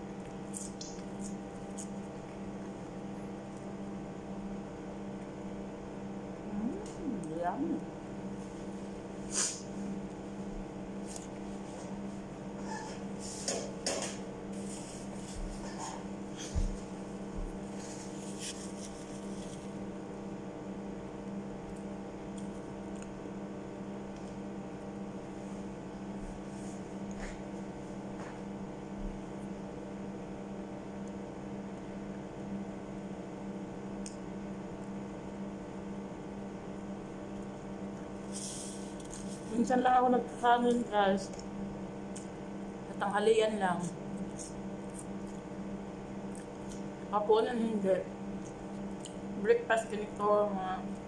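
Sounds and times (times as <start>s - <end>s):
appliance electrical hum: 0.0s - 51.0s.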